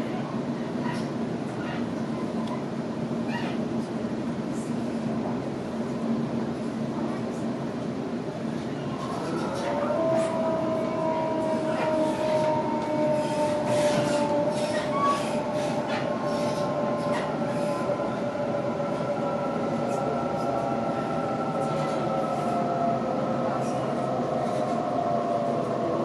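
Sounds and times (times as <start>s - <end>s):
rumble of train wheels on rail: 0.0s - 26.0s.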